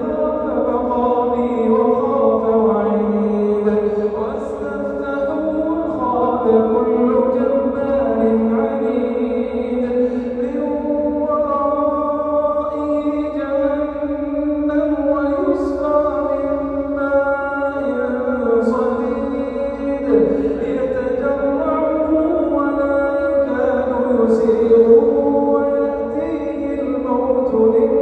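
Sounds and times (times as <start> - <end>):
man chanting melodically: 0.0 - 28.0.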